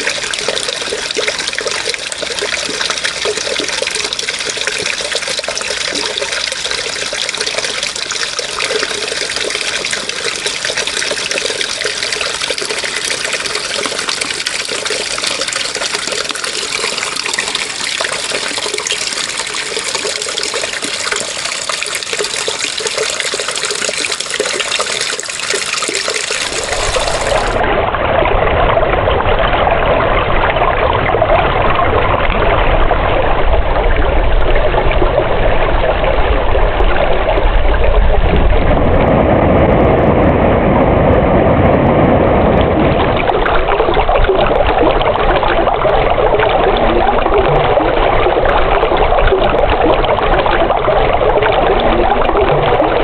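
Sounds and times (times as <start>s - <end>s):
water trickling and splashing: 0.0s - 39.0s, 42.6s - 53.0s
water rushing: 0.0s - 53.0s.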